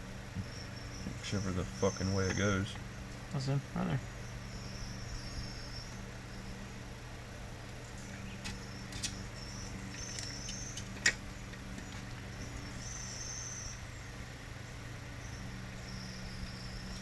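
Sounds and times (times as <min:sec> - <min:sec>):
insects chirping: 0:00.0 - 0:17.0
steady low hum: 0:00.0 - 0:17.0.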